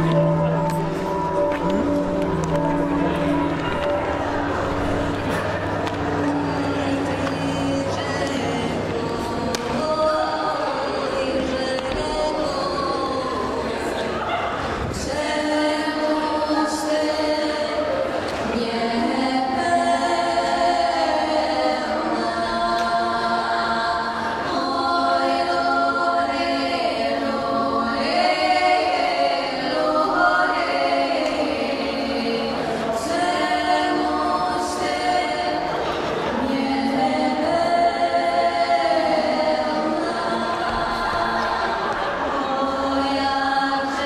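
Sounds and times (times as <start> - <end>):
choir singing: 0.0 - 44.0.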